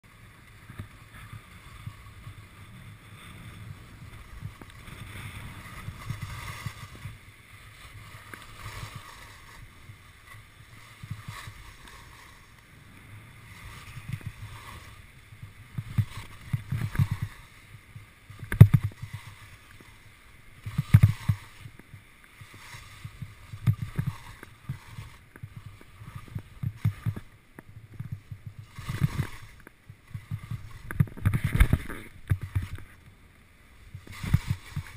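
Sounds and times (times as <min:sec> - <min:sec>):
skis scraping on snow: 0:00.1 - 0:34.9
skis knocking on bumps: 0:00.5 - 0:33.0, 0:33.8 - 0:34.9.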